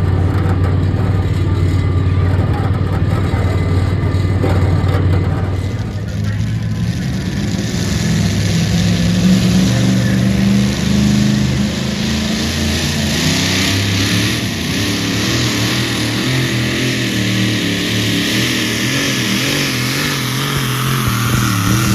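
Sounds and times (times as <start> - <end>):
vehicle engine running hard: 0.0 - 21.9.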